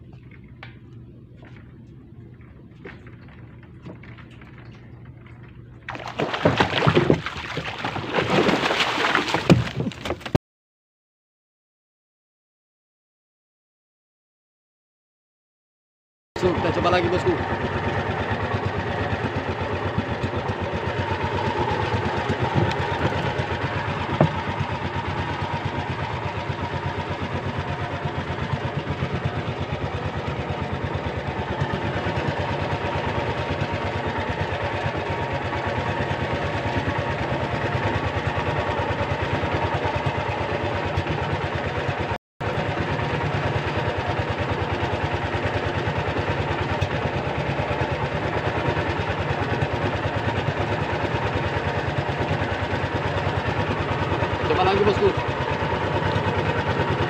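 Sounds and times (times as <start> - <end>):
boat engine puttering: 0.0 - 10.4, 16.4 - 57.0.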